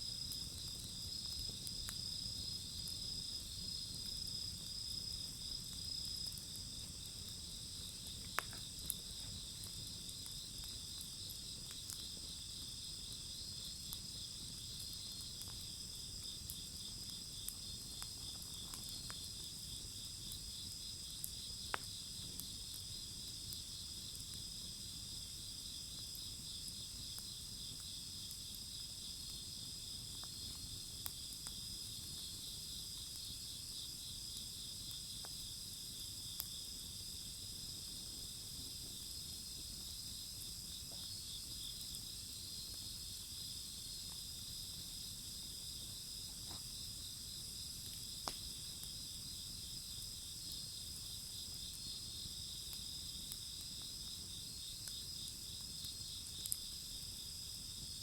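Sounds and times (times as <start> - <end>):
wood fire crackling: 0.0 - 58.0
insects chirping: 0.1 - 58.0.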